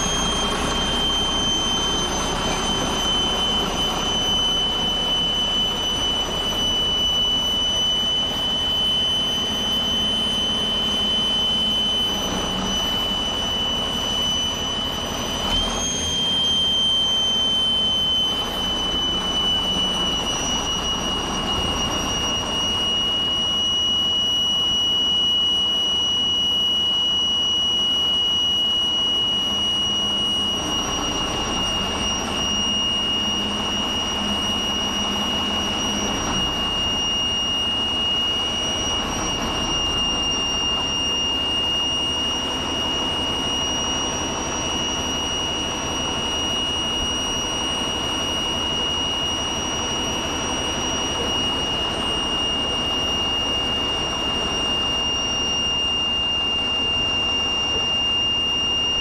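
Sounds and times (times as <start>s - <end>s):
bulldozer diesel engine: 0.0s - 25.3s, 28.0s - 58.2s
high-pitched whine: 0.0s - 59.0s.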